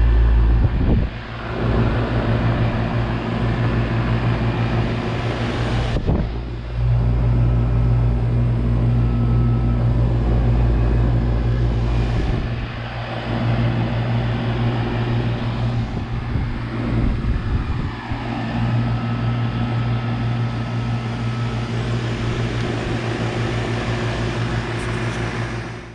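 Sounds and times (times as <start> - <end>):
air conditioner compressor hum: 0.0 - 25.9
condenser fan rushing: 0.0 - 25.9.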